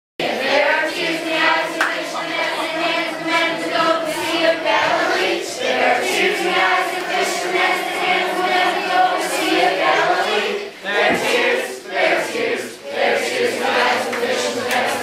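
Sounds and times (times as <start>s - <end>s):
children and adults singing: 0.2s - 15.0s.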